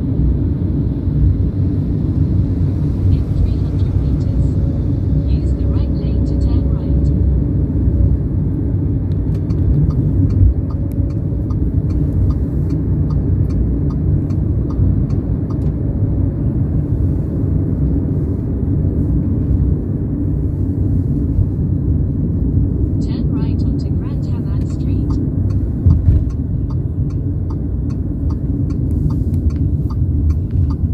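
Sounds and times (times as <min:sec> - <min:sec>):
metro train rumbling: 0:00.0 - 0:30.9.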